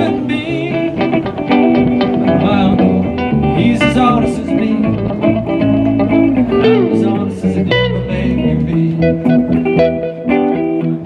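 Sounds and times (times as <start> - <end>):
lead guitar bent notes: 0.0 - 11.0
live rock band playing: 0.0 - 11.0.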